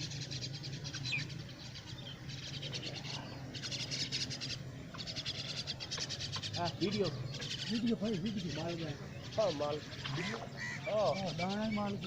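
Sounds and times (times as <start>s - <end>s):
high rapid trilling bird calls: 0.0s - 12.0s.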